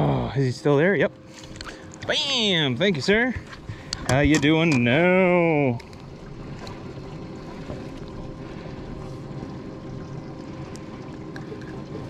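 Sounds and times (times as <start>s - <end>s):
faint steady hum: 0.0s - 12.0s
wind: 0.0s - 12.0s
water lapping against boat: 1.1s - 12.0s.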